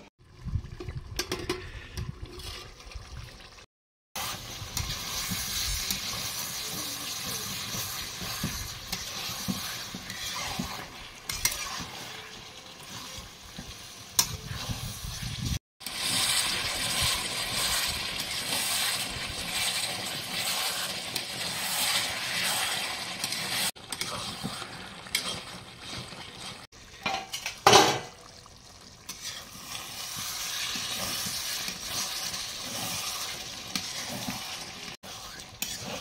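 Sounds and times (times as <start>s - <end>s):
metal spatula scraping: 4.2s - 27.6s, 29.1s - 36.0s
curry sizzling in a pan: 4.2s - 36.0s.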